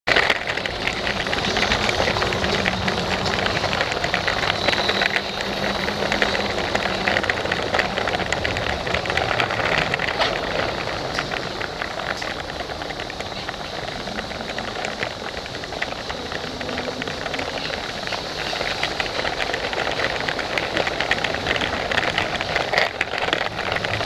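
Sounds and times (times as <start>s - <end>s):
wheels clicking on track: 0.0s - 24.0s
toy train motor hum: 0.1s - 24.0s.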